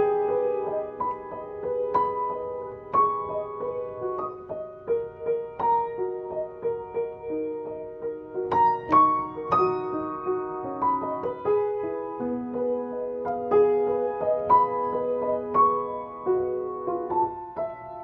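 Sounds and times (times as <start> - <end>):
piano melody with chords: 0.0 - 18.0.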